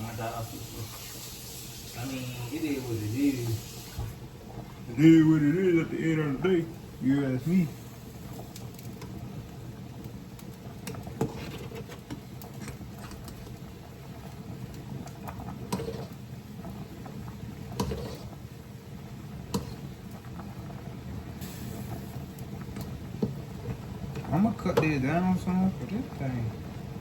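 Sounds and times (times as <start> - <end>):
low kitchen hum: 0.0 - 27.0.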